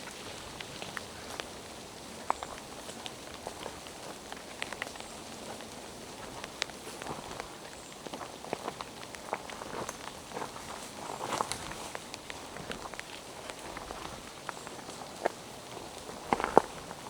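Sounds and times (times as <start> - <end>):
rain hissing in forest: 0.0 - 17.0
raindrops tapping close by: 0.0 - 17.0.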